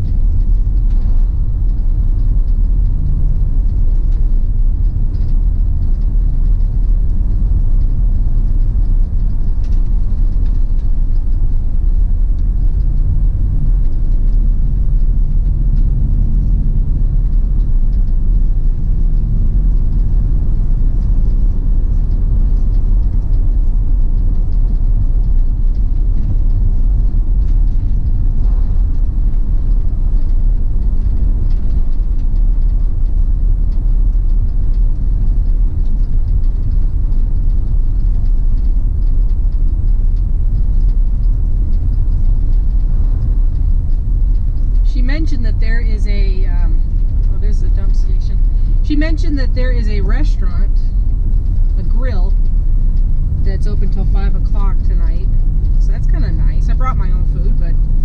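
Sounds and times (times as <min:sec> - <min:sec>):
tyre noise on road: 0:00.0 - 0:58.0
vehicle engine hum: 0:00.0 - 0:58.0.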